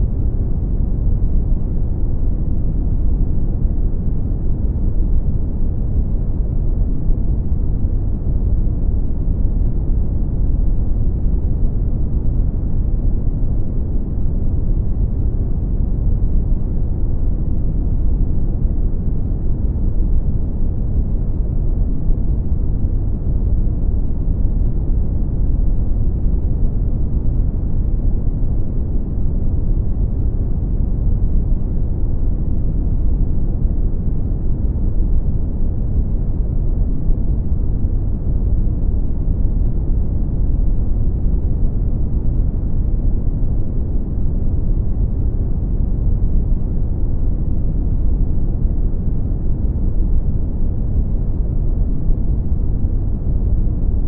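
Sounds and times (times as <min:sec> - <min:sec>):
deep rumbling brown noise hiss: 0:00.0 - 0:54.0.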